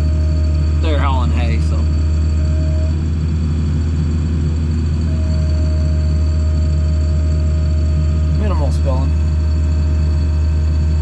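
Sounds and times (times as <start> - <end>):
faint steady whine: 0.0 - 11.0
tractor engine droning: 0.0 - 11.0.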